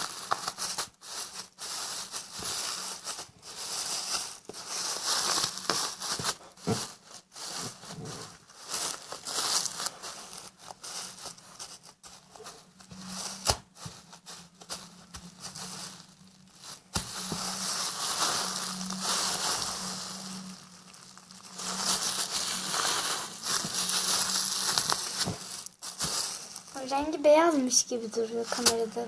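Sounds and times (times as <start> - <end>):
foam crackling: 0.0 - 29.0
plastic bag crinkling: 0.0 - 29.0.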